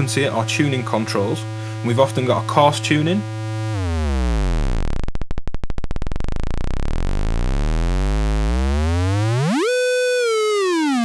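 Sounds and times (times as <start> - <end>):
synthesizer square wave sweeping: 0.0 - 11.0.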